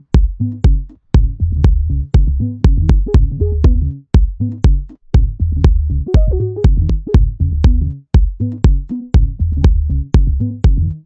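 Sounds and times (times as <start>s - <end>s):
deep bass line: 0.0s - 11.0s
drum machine beat: 0.0s - 11.0s.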